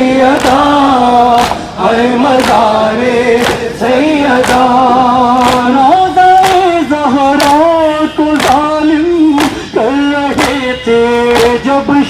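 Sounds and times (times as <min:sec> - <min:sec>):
crowd beating chests: 0:00.0 - 0:12.0
men chanting over loudspeaker: 0:00.0 - 0:12.0.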